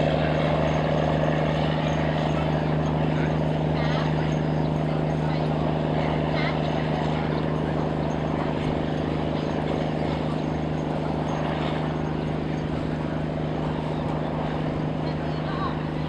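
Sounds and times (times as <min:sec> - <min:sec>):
boat diesel engine droning: 0:00.0 - 0:16.0.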